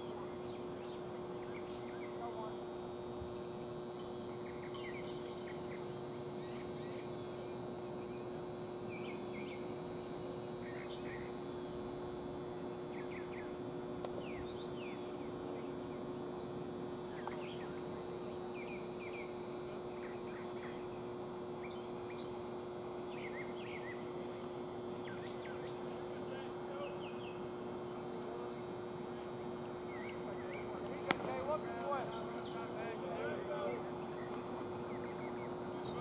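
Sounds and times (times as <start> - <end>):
birds chirping: 0.0 - 10.0, 10.6 - 11.6, 12.8 - 36.0
constant hum: 0.0 - 36.0.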